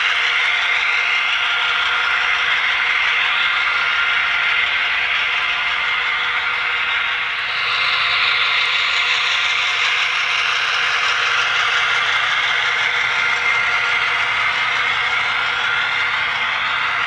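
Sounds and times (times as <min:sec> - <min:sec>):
model train motor whir and clatter: 0:00.0 - 0:17.0.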